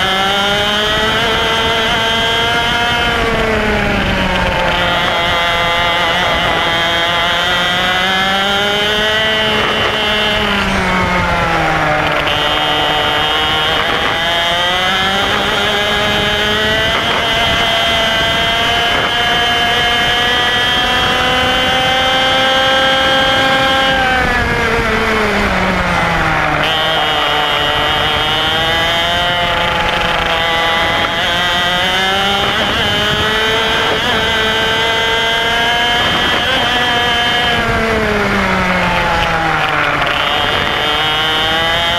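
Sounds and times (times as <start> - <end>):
kart engine revving: 0.0 - 41.9.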